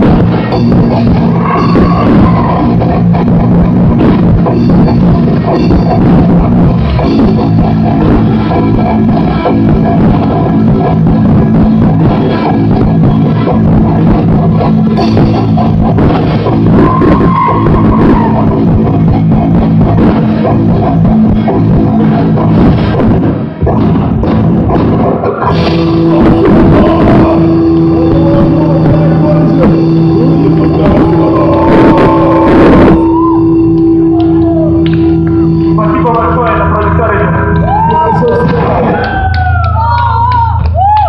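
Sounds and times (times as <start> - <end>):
drum kit: 0.0 - 41.0
heavy distorted guitars: 0.0 - 41.0.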